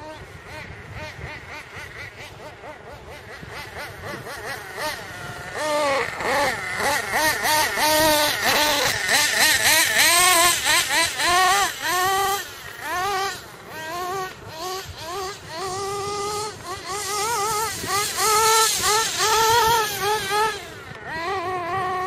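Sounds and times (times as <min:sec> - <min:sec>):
model car engine revving: 0:00.0 - 0:22.0.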